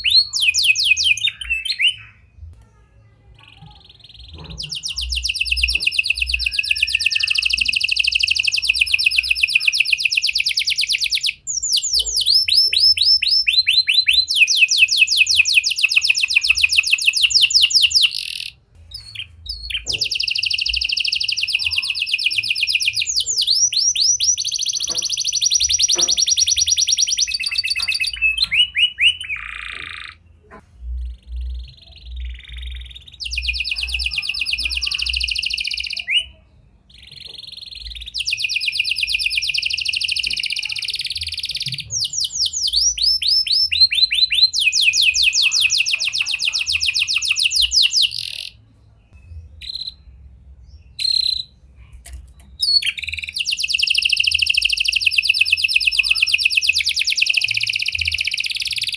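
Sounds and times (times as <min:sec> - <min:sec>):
canary singing trills: 0:00.0 - 0:02.6, 0:03.2 - 0:58.9.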